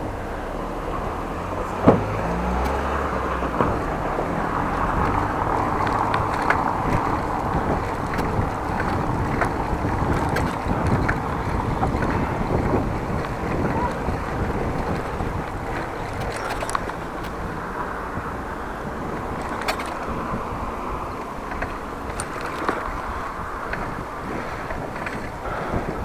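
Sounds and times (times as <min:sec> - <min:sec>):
road noise: 0:00.0 - 0:26.0
wind on microphone: 0:00.0 - 0:26.0.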